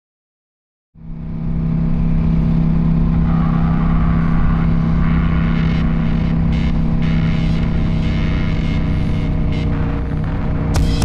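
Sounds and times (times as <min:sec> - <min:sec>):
motorcycle engine running: 0:01.0 - 0:11.0.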